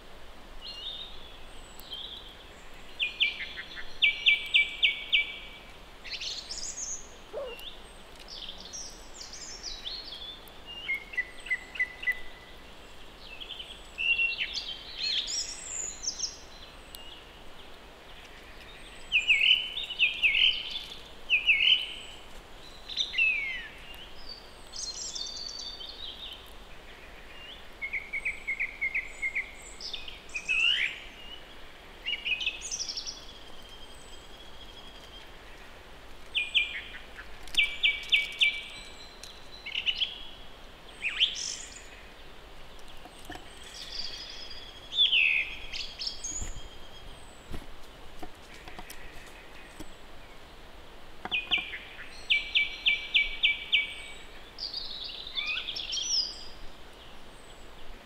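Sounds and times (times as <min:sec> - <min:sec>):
faint steady hiss: 0:00.0 - 0:58.0
songbirds singing: 0:00.6 - 0:58.0.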